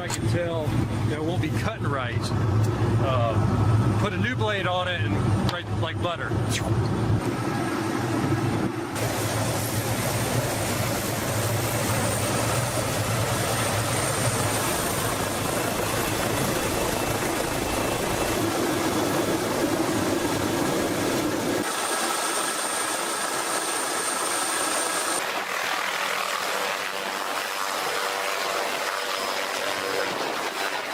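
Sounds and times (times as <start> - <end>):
helicopter engine and rotor: 0.0 - 30.9
high turbine whine: 0.0 - 30.9.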